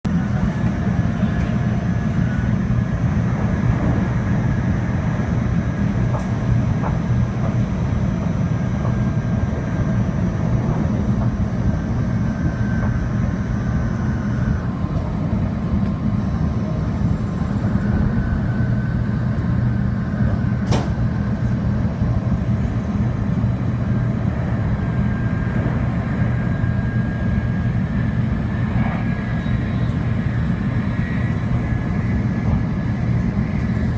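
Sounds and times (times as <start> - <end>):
train running rumble: 0.0 - 33.9.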